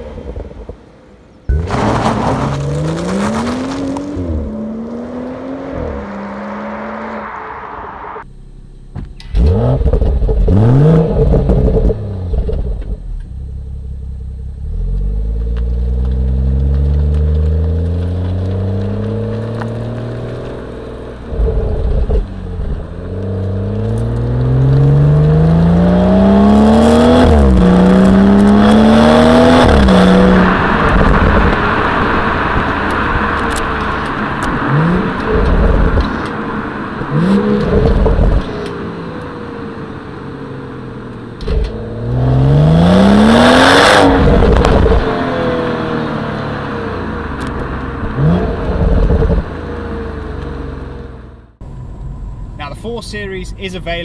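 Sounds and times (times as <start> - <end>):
car engine accelerating hard: 1.5 - 8.3, 9.2 - 13.0, 14.5 - 52.6.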